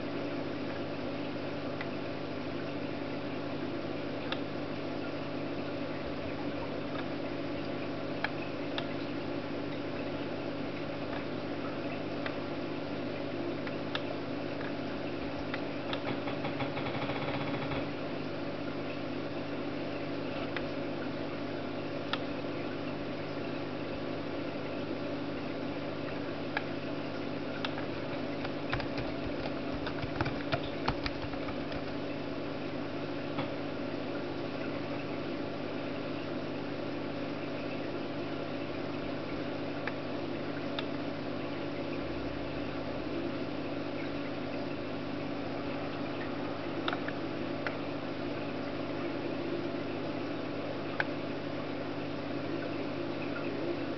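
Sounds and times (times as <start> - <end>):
mechanical hum: 0.0 - 53.9.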